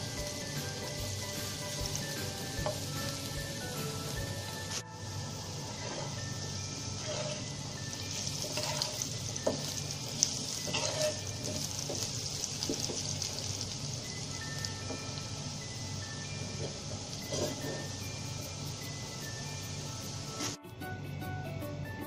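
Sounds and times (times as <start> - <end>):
food sizzling in hot oil: 0.0 - 20.6.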